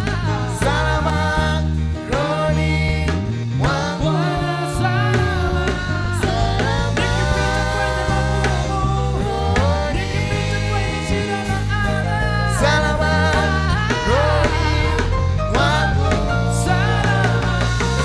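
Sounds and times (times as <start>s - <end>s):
band with steady bass line: 0.0s - 18.0s
gospel singing: 0.0s - 18.0s.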